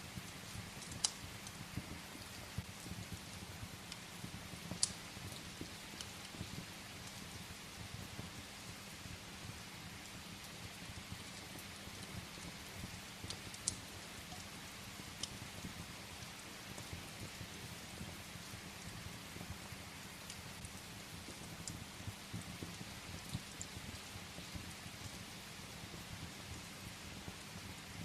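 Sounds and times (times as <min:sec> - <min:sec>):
sharp fire pops: 0:00.0 - 0:09.2, 0:09.9 - 0:25.3
steady rain: 0:00.0 - 0:28.0
wood fire crackling: 0:00.0 - 0:28.0.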